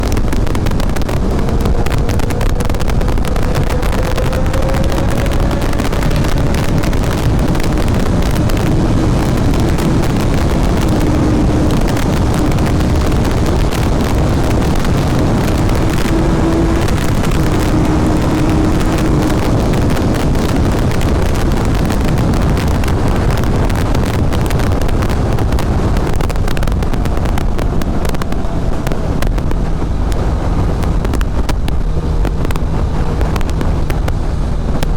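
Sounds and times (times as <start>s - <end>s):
motorcycle engine: 0.0s - 34.9s
wind noise on microphone: 0.0s - 34.9s.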